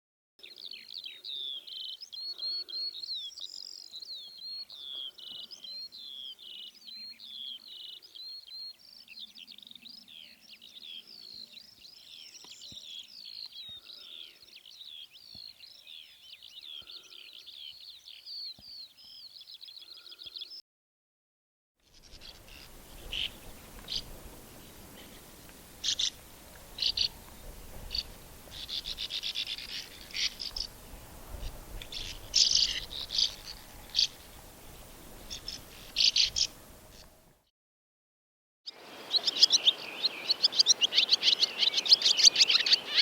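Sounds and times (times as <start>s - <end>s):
songbird singing: 0.4s - 20.6s, 21.8s - 37.4s, 38.7s - 43.0s.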